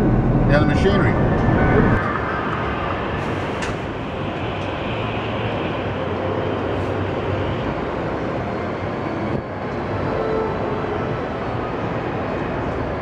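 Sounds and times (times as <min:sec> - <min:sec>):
large hall background noise: 0:00.0 - 0:13.0.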